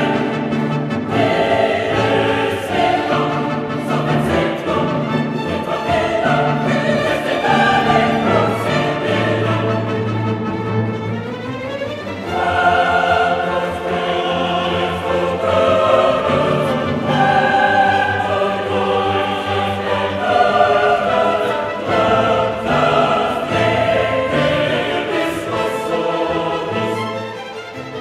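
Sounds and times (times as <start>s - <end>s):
choir singing held notes: 0.0s - 10.8s, 12.2s - 27.4s
orchestra playing: 0.0s - 28.0s.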